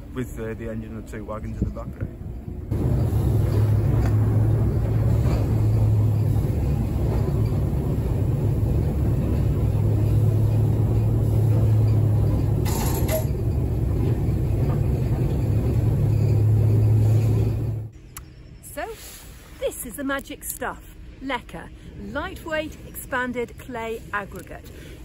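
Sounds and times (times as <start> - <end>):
diesel locomotive engine droning: 0.0 - 25.0.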